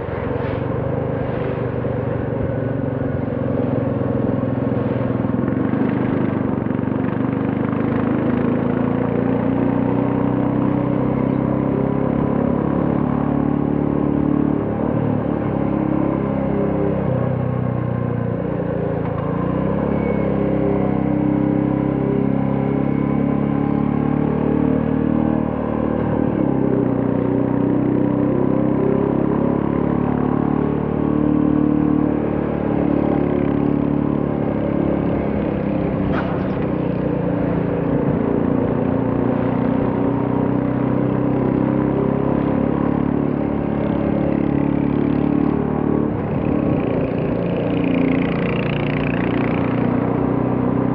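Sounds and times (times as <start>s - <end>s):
motorcycle engine and exhaust: 0.0s - 50.9s
road noise: 0.0s - 50.9s.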